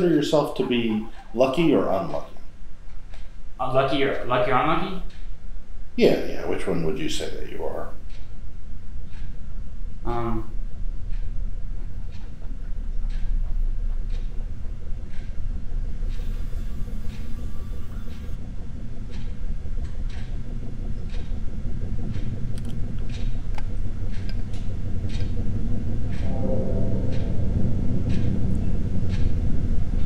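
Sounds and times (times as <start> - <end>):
faint clock tick: 0.0 - 5.4, 6.0 - 18.4, 19.0 - 30.0
low rumbling suspense drone: 0.0 - 30.0.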